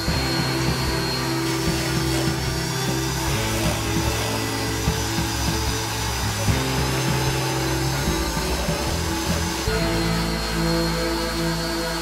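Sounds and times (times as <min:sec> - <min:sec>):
rotary tool grinding wood: 0:00.0 - 0:12.0.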